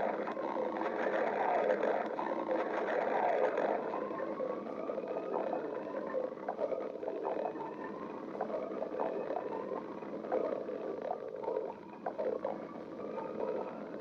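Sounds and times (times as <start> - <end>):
stomach growling: 0.0 - 14.0.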